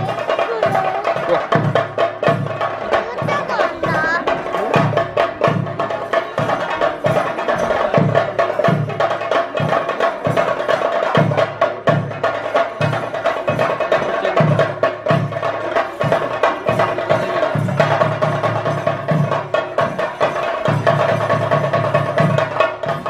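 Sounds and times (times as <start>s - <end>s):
rapid clatter of sharp drum strokes: 0.0s - 23.0s.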